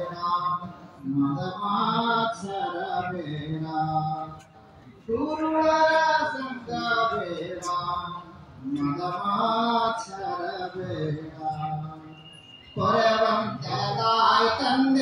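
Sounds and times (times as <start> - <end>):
man singing: 0.0 - 4.5, 5.1 - 12.1, 12.8 - 15.0.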